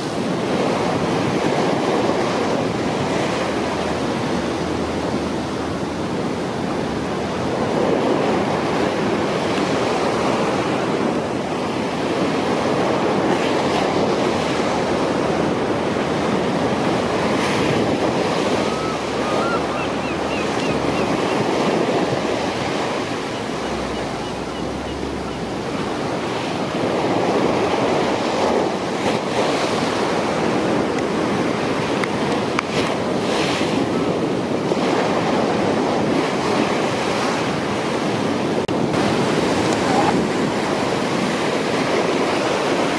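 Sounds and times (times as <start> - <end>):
rushing water: 0.0 - 42.9
wind buffeting microphone: 0.0 - 42.9.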